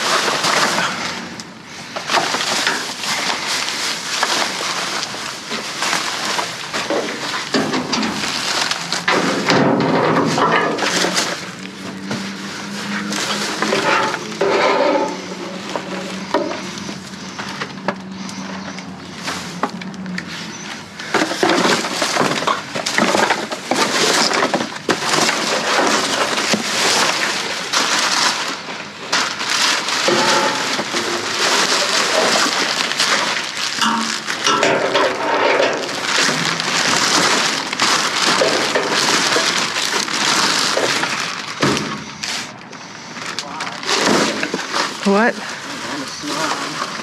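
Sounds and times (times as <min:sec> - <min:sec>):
items knocking and clattering: 0:00.0 - 0:18.1, 0:20.9 - 0:42.2, 0:43.7 - 0:47.0
plastic bags crinkling: 0:00.0 - 0:47.0.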